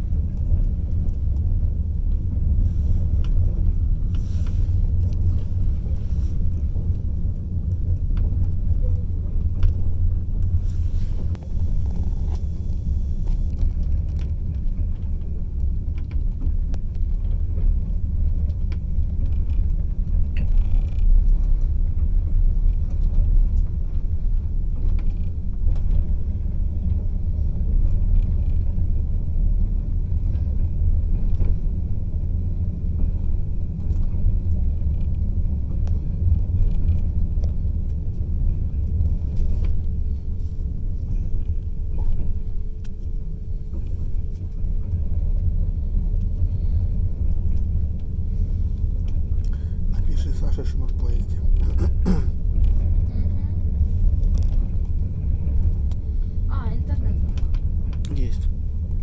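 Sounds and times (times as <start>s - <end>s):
moving train rumble: 0.0s - 59.0s.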